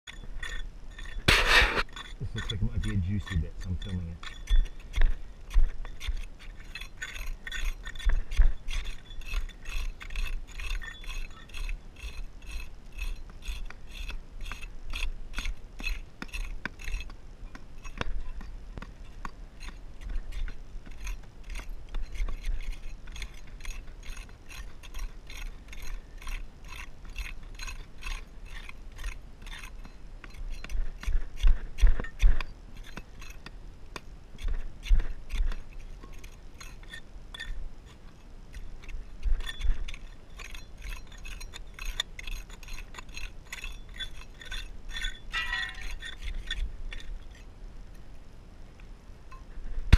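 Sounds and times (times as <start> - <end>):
trowel scraping through soil: 0.1 - 47.5.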